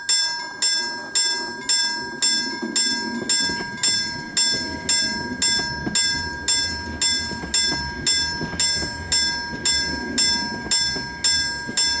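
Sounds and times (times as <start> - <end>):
tram rolling on rails: 0.0 - 12.0
warning bell striking: 0.0 - 12.0.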